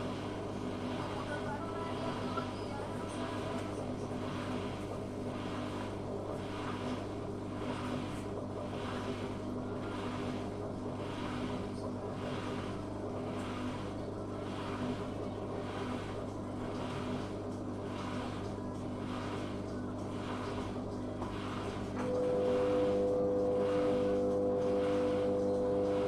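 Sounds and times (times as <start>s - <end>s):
washing machine motor hum: 0.0s - 26.0s
washing machine rhythmic swish: 0.0s - 26.0s.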